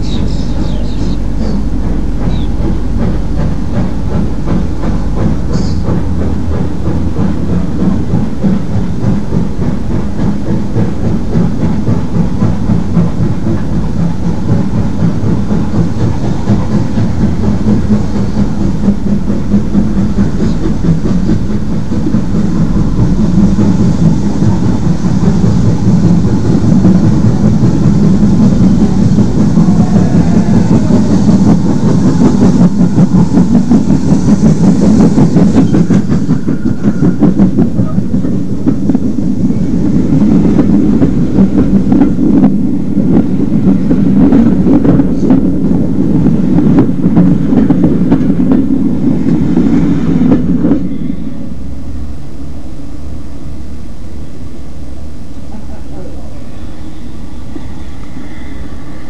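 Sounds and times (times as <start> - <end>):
train wheels clicking over rail joints: 0.0 - 52.0
steam locomotive chugging: 0.0 - 59.0.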